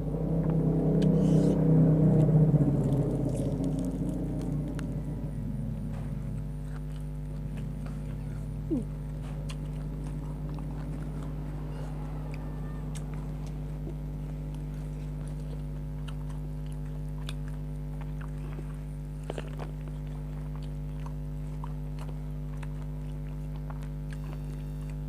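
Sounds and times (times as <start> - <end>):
steady electrical hum: 0.0 - 25.0
chewing mouth clicks and smacks: 2.2 - 5.1, 5.8 - 25.0.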